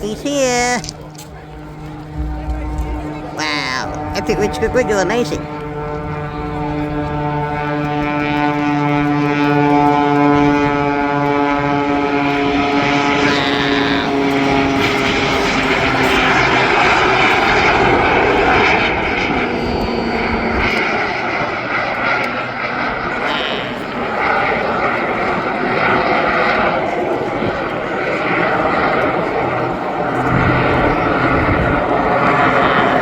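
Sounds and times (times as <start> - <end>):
plane engine passing overhead: 0.0 - 33.0.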